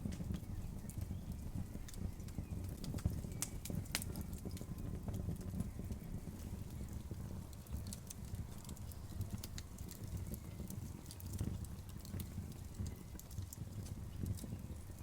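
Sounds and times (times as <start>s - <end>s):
burning wood popping and snapping: 0.0s - 15.0s
low rumble of flames: 0.0s - 15.0s.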